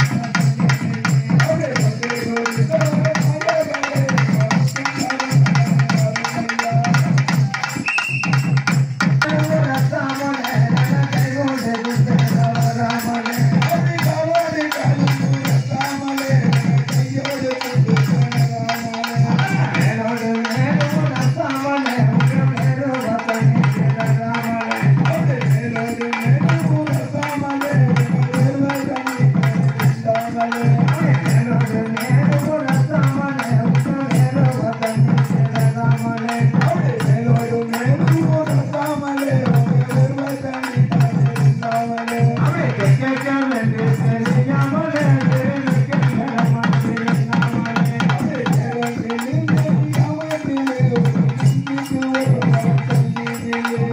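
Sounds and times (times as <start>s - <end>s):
men singing through loudspeakers: 0.0s - 53.9s
repeating drum rhythm: 0.0s - 53.9s
small hand cymbals: 0.0s - 53.9s.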